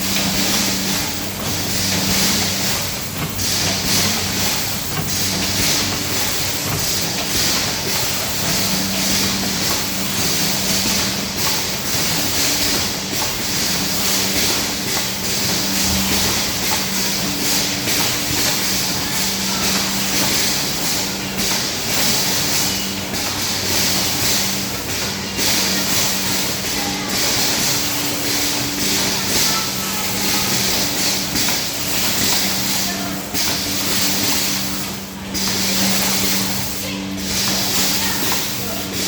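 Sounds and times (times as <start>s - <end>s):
mechanical clicks and clacks: 0.0s - 39.0s
packing machine humming and hissing: 0.0s - 39.0s.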